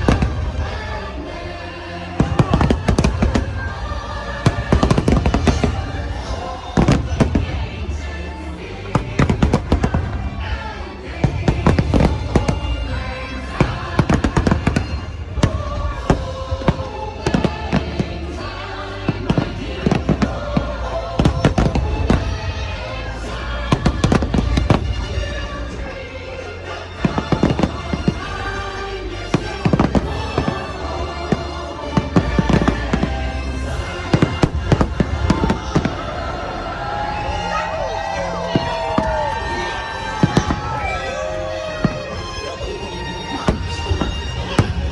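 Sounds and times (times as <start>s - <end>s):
fireworks bangs and crackles: 0.0s - 1.4s, 2.1s - 26.1s, 26.8s - 44.9s
deep rumble: 0.0s - 44.9s
music soundtrack: 0.0s - 44.9s.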